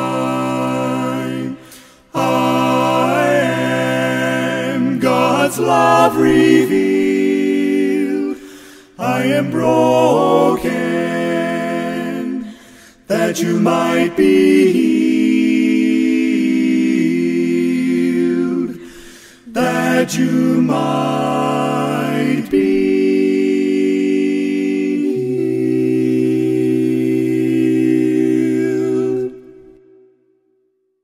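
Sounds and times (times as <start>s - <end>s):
male vocal quartet singing a cappella: 0.0s - 29.8s.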